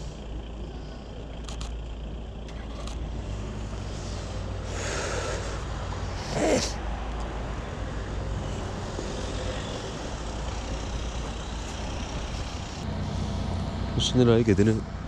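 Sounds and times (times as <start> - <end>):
cars passing with low rumble: 0.0 - 15.0.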